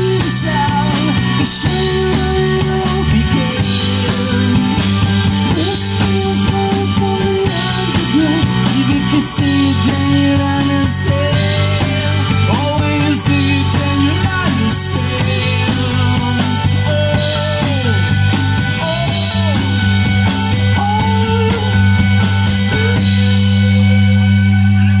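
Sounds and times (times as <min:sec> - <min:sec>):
bass guitar: 0:00.0 - 0:25.0
drums: 0:00.0 - 0:25.0
electric guitar lead: 0:00.0 - 0:25.0.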